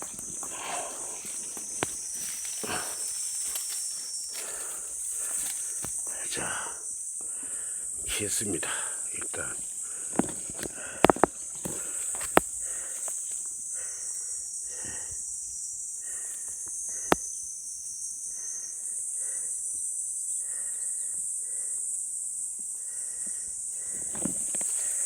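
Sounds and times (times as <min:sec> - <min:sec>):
insect chorus: 0:00.0 - 0:25.0.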